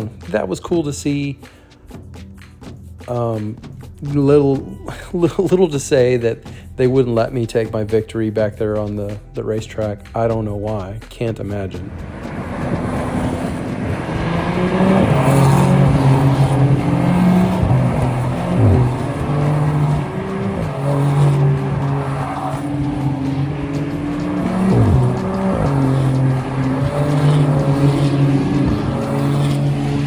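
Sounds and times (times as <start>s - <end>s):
race car engines passing by: 0.0s - 30.0s.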